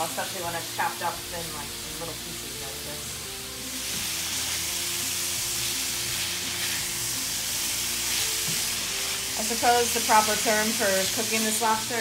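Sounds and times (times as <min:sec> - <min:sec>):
meat sizzling in frying pan: 0:00.0 - 0:12.0.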